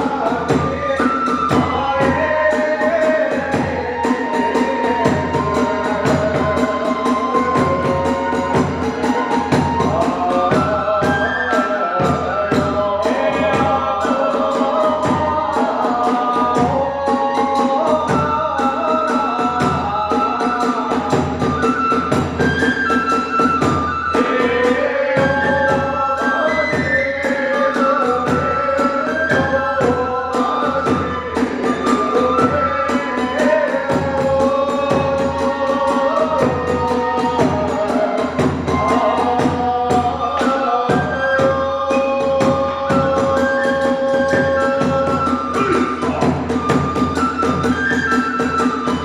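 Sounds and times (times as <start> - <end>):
bamboo flute melody: 0.0 - 49.0
drum strikes: 0.0 - 49.0.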